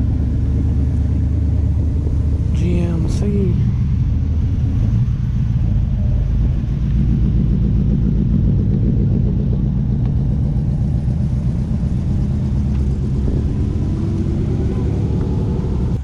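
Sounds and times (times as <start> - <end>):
car engines rumbling past: 0.0 - 16.0.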